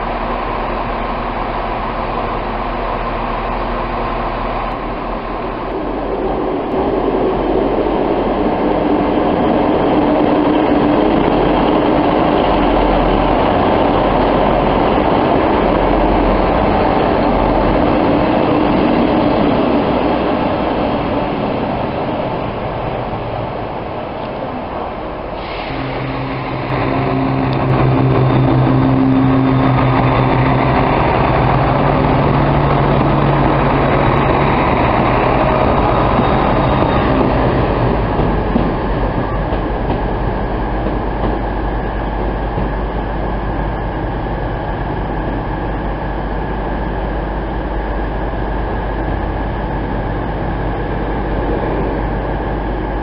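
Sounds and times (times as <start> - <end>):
diesel engine drone: 0.0 - 53.0
train rumbling on track: 0.0 - 53.0.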